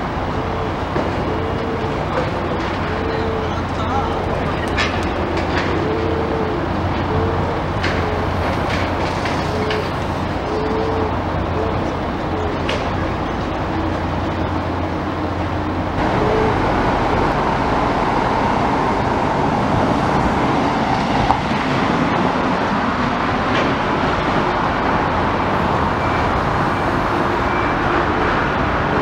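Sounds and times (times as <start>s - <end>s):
motor engine rumble: 0.0s - 29.0s.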